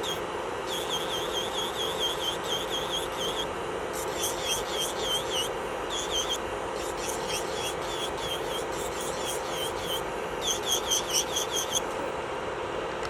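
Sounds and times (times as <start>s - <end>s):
drill bit squeaky scrapes: 0.0s - 12.1s
electric nail drill running: 0.0s - 12.2s.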